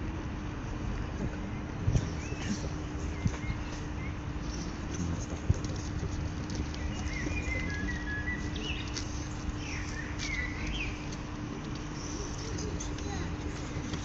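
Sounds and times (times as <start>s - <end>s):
faint steady hum: 0.0s - 14.0s
low outdoor rumble: 0.0s - 14.0s
small birds chirping and whistling: 1.5s - 11.2s, 11.8s - 14.0s.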